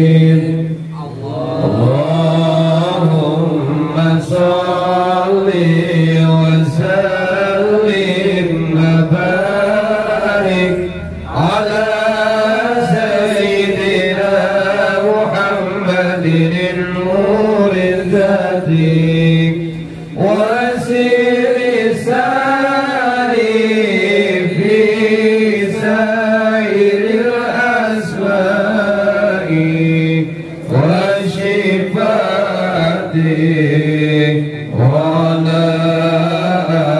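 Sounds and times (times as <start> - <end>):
devotional chanting: 0.0 - 36.9.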